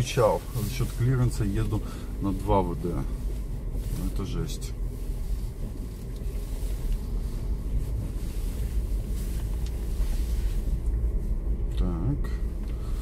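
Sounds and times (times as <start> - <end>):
low uneven vehicle rumble: 0.0 - 13.0.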